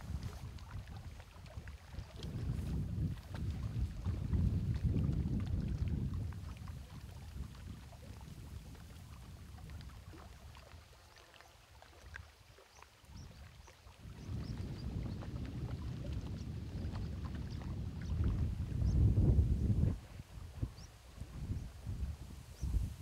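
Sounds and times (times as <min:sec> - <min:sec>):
wind buffeting microphone: 0:00.0 - 0:10.8, 0:13.1 - 0:23.0
water lapping at shore: 0:00.0 - 0:23.0.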